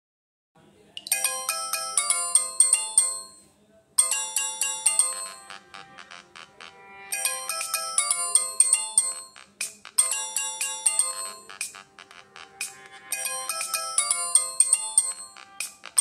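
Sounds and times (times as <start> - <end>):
melodic phone ringtone: 1.0 - 16.0.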